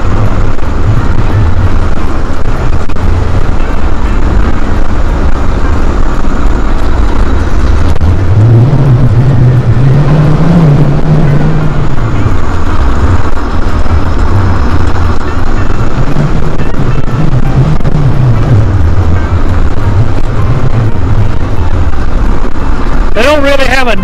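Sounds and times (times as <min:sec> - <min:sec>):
low motor hum: 0:00.0 - 0:24.0
mobility scooter rumbling on road: 0:00.0 - 0:24.0.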